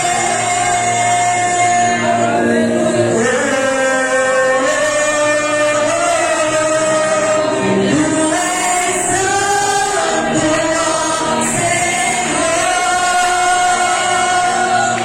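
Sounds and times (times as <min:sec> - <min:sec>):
choir singing a hymn: 0:00.0 - 0:15.0.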